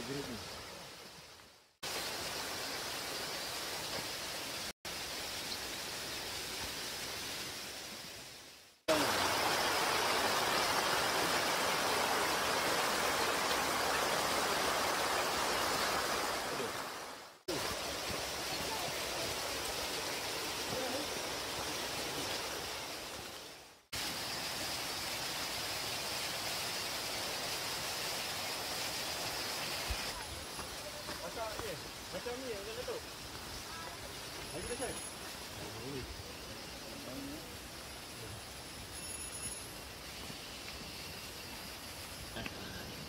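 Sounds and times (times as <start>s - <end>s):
high even hiss: 0.0s - 43.0s.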